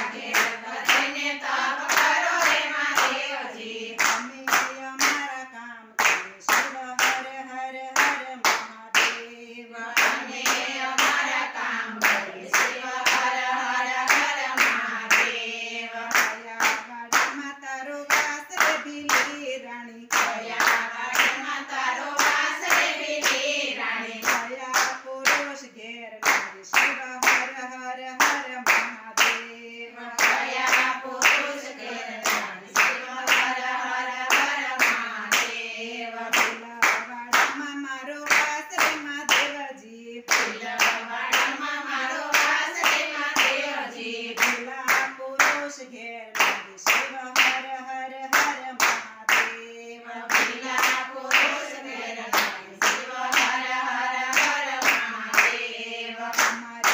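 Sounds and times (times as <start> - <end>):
rhythmic hand clapping: 0.0 - 56.9
women singing together: 0.0 - 56.9.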